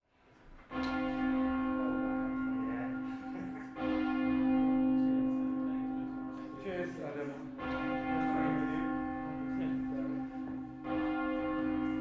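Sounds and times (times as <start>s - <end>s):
heavy church bell: 0.6s - 12.0s.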